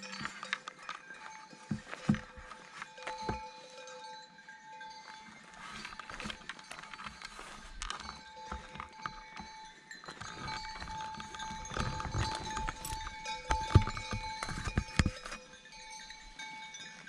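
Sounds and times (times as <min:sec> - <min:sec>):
sheep bells clanking: 0:00.0 - 0:17.0.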